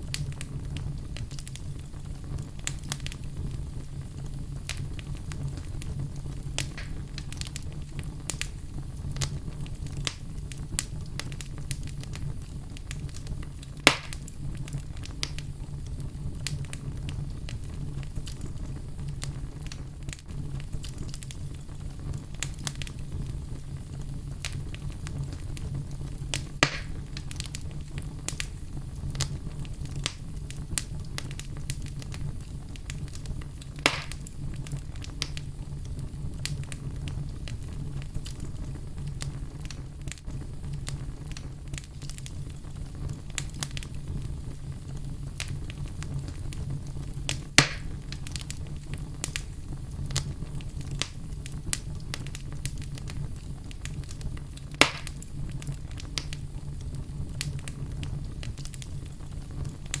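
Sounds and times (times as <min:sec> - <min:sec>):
fire crackling and popping: 0:00.0 - 1:00.0
flames rumbling: 0:00.0 - 1:00.0.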